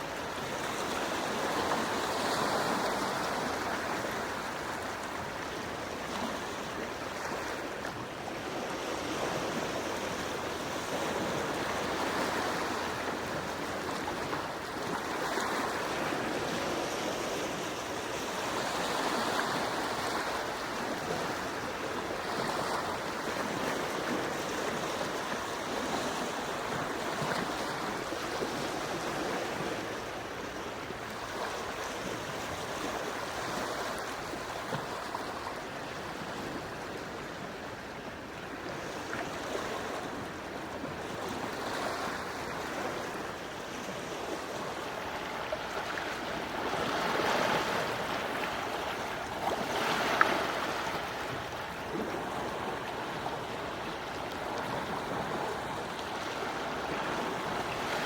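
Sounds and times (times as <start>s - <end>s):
gentle sea waves washing: 0.0s - 58.0s.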